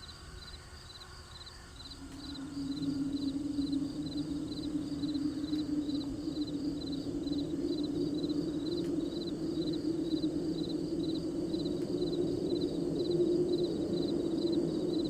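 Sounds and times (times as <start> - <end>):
crickets chirping: 0.0 - 15.0
low drone: 0.0 - 15.0.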